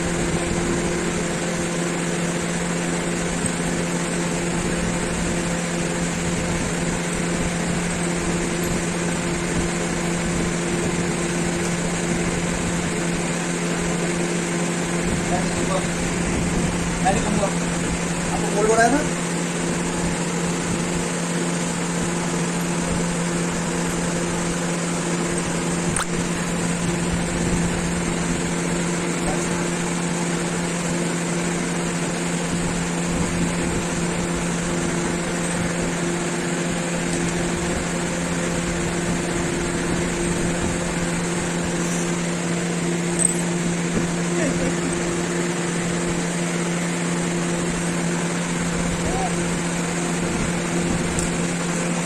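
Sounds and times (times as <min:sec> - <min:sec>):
machine hum with rushing air: 0:00.0 - 0:52.0.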